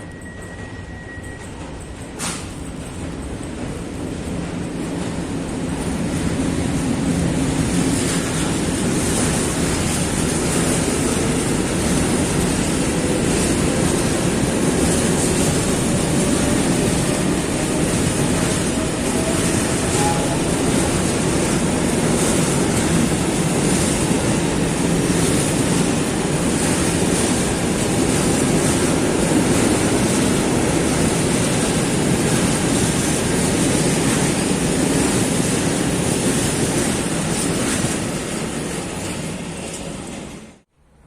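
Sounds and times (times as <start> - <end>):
freight train wheels on rail: 0.0 - 41.0.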